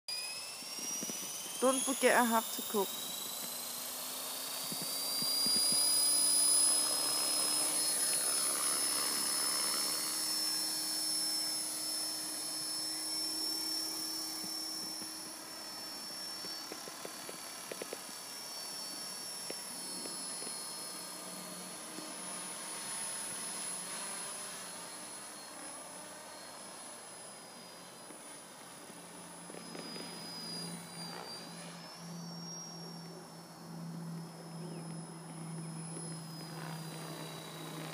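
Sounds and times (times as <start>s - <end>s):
rc helicopter motor whine: 0.1s - 37.9s.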